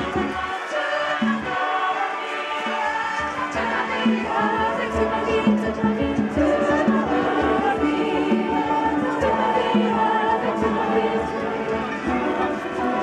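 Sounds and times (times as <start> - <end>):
choir singing in harmony: 0.0 - 13.0.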